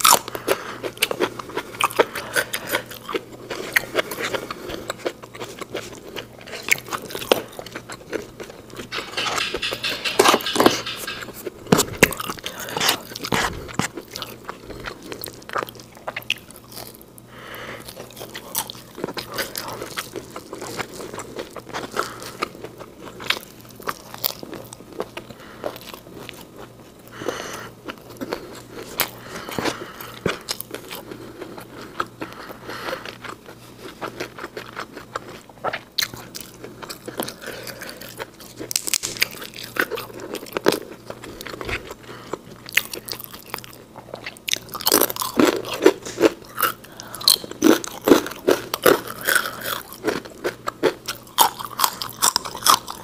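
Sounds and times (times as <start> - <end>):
person chewing crisp food: 0.0 - 53.0.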